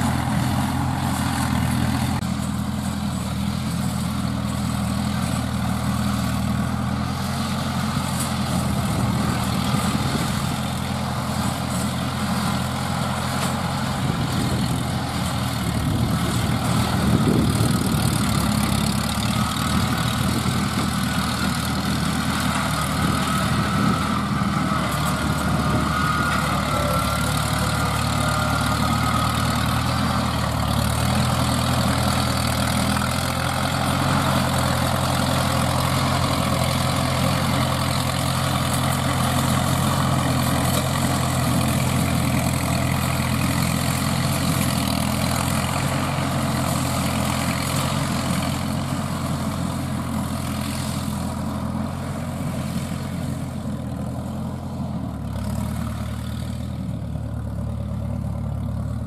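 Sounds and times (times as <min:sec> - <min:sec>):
tiller churning dry soil: 0:00.0 - 0:59.0
tiller engine running under load: 0:00.0 - 0:59.0.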